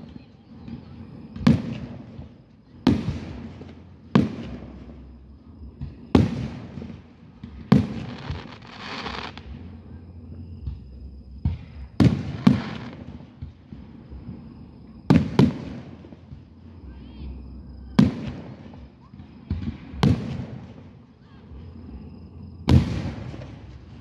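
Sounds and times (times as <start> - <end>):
fireworks booms with echo: 0.0 - 24.0.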